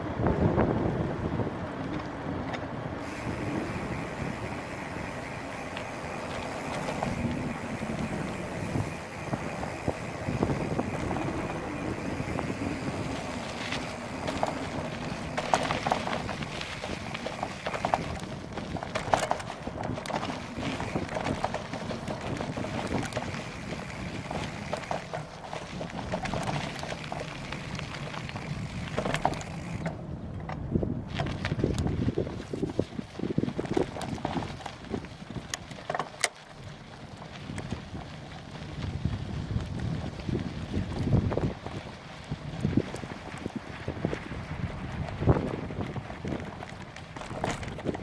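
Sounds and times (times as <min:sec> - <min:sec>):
wind rushing over microphone: 0:00.0 - 0:35.8, 0:37.2 - 0:48.0
bicycle knocks and rattles: 0:00.1 - 0:48.0.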